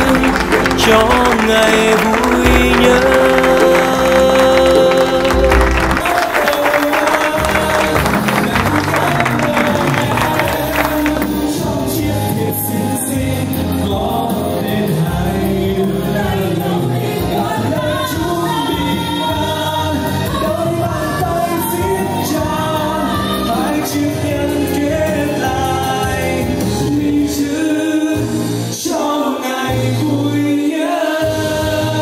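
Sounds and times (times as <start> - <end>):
instrumental backing: 0.0 - 28.8
person singing: 0.0 - 32.0.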